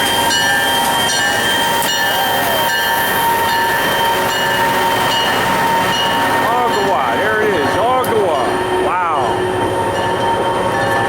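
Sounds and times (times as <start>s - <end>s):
train cars clicking over rails: 0.0s - 11.0s
train wheels squealing: 0.0s - 11.0s.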